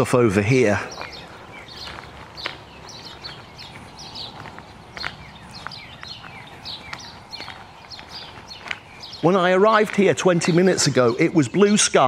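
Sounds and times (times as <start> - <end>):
birds chirping: 0.0 - 12.0
footsteps on gravel: 0.4 - 11.3.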